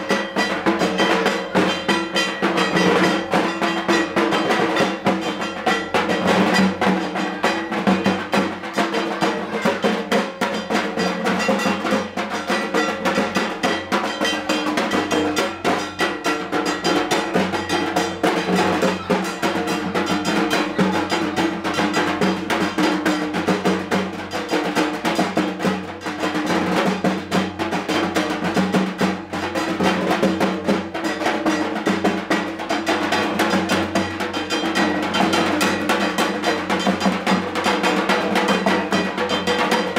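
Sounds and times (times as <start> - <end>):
fast continuous drumming: 0.0 - 39.9.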